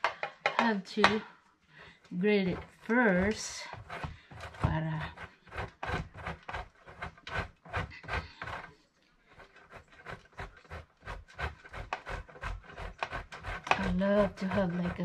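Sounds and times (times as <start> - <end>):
cheese rasping on metal grater: 2.3 - 15.0.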